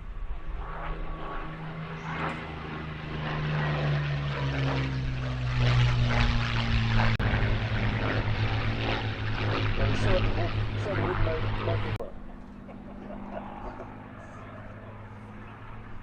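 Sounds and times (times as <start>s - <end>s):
propeller plane engine flying past: 0.0s - 16.0s.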